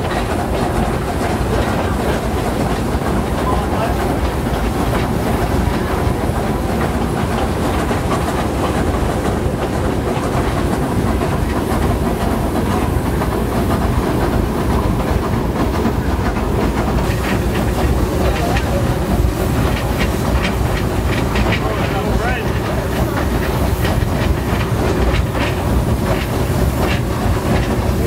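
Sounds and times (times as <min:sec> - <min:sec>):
train wheels running on rails: 0:00.0 - 0:28.0.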